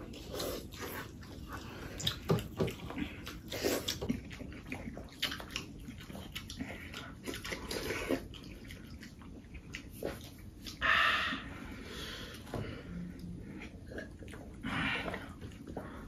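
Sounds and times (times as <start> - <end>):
chewing and lip smacks: 0.0 - 10.9, 12.3 - 16.0.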